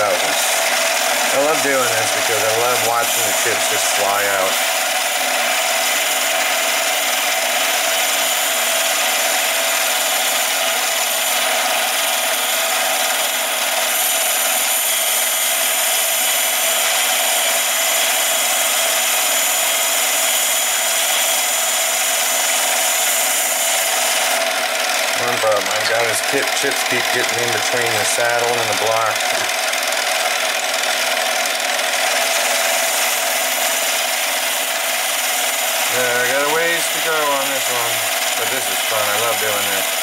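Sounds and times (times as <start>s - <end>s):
lathe cutting aluminum: 0.0s - 40.0s.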